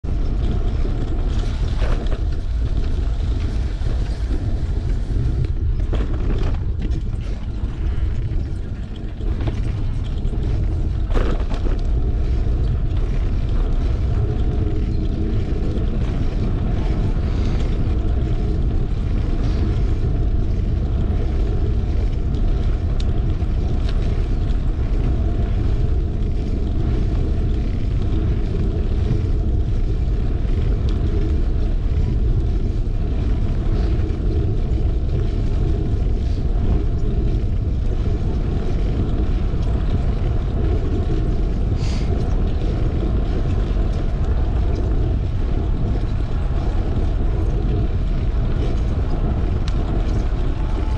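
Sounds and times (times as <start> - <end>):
bicycle tyres rolling on asphalt: 0.0 - 50.9
wind rumble on microphone: 0.0 - 50.9.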